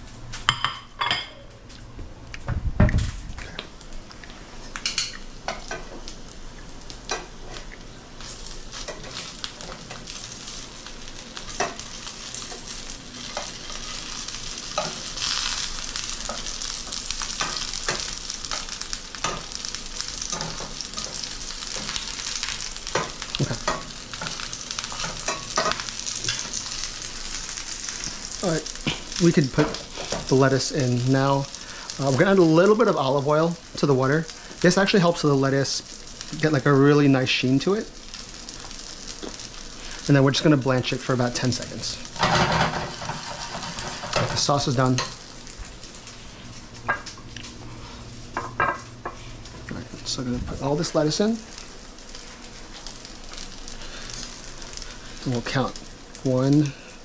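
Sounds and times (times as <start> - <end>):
dumplings sizzling in pan: 3.8 - 57.0.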